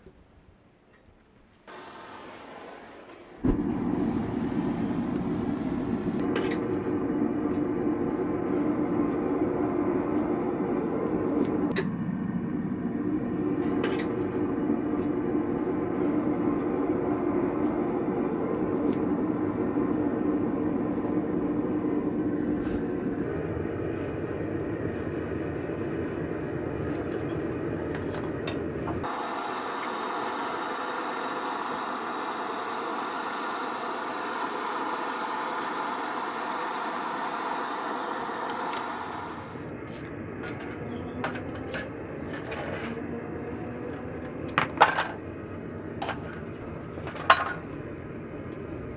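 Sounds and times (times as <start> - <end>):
gas burner roaring: 1.6 - 48.9.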